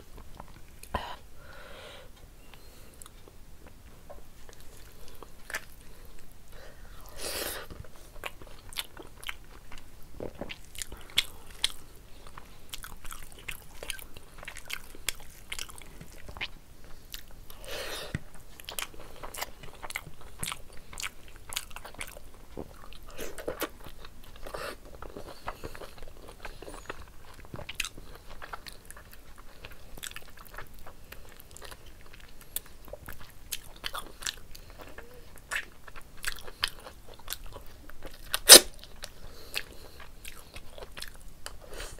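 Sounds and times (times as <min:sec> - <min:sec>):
person chewing and smacking: 0:03.0 - 0:41.9.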